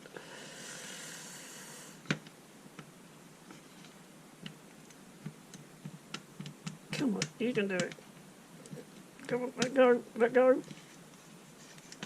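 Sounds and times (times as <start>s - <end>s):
soft scraping hiss: 0.0s - 12.0s.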